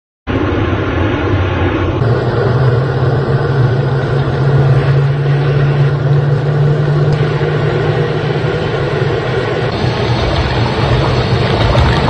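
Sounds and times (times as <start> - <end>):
jet engine roar: 0.3 - 12.0
low hum: 0.3 - 12.0.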